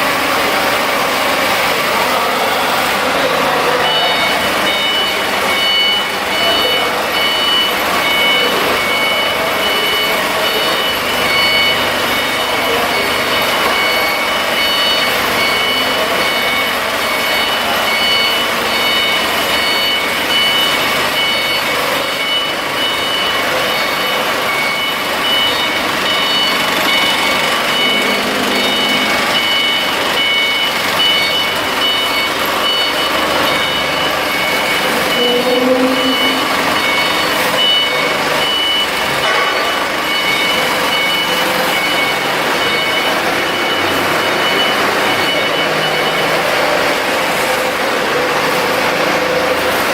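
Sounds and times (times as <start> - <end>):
diesel generator running: 0.0 - 49.9
high-pitched tones: 2.5 - 47.9.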